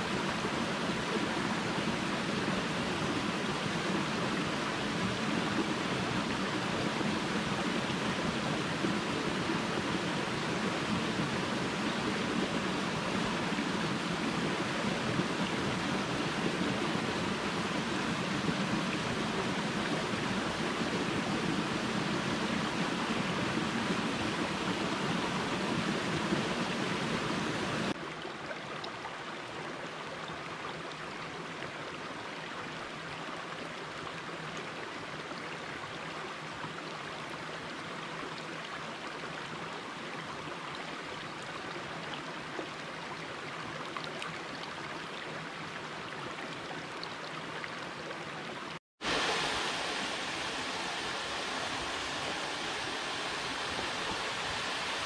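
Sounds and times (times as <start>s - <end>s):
creek running over stones: 0.0s - 55.0s
small waterfall splashing: 0.0s - 55.0s.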